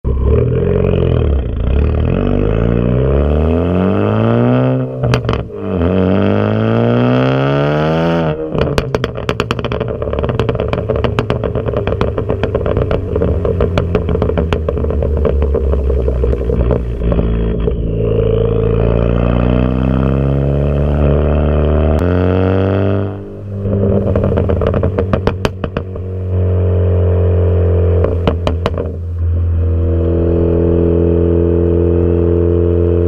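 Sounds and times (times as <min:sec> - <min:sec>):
car engine accelerating hard: 0:00.0 - 0:33.0
exhaust pops and crackles: 0:04.1 - 0:21.2, 0:21.8 - 0:33.0.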